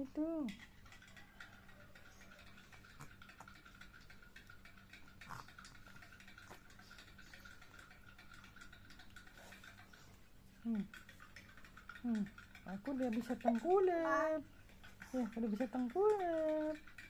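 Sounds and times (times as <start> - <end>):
faint ticks and clicks: 0.0 - 17.0.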